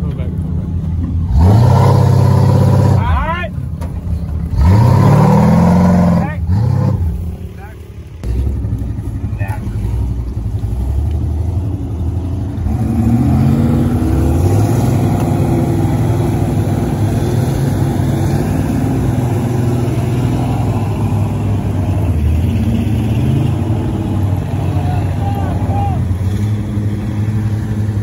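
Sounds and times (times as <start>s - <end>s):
vehicle engine revving: 1.0s - 3.4s, 4.2s - 28.0s.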